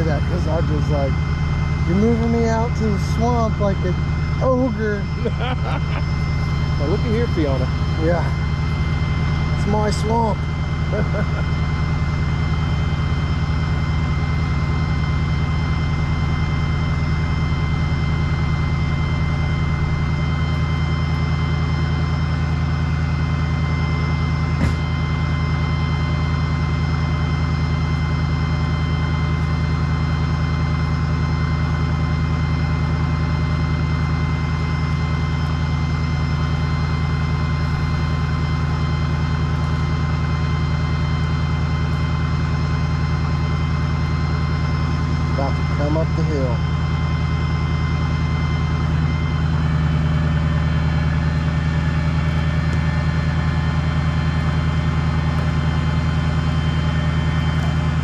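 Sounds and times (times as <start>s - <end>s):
heavy engine running: 0.0s - 58.0s
high whine: 0.0s - 58.0s.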